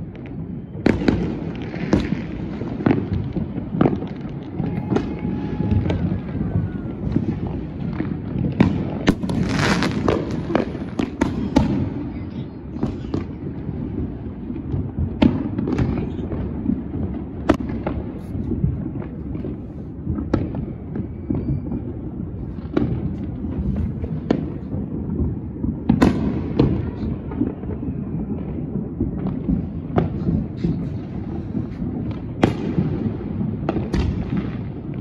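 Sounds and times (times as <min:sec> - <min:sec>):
distant fireworks rumble: 0:00.0 - 0:35.0
fireworks cracking: 0:00.0 - 0:35.0.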